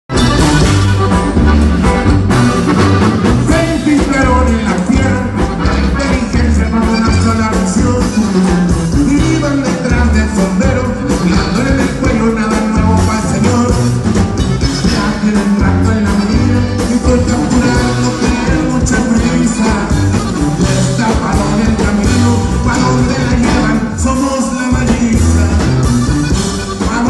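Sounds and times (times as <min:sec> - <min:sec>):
rock band playing live: 0:00.1 - 0:27.0
person singing: 0:03.2 - 0:14.0, 0:14.6 - 0:27.0.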